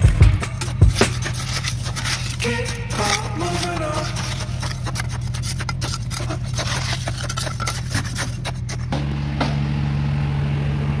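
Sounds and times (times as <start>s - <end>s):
scraping and rubbing: 0.0s - 9.0s
low mechanical hum: 0.0s - 11.0s.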